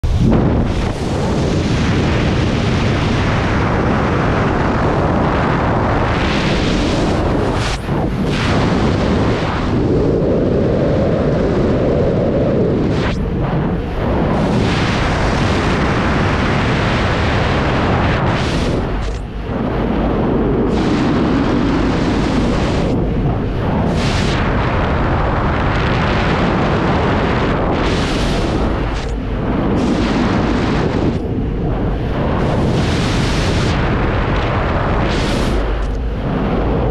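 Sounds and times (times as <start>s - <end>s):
freefall wind buffeting microphone: 0.0s - 36.9s.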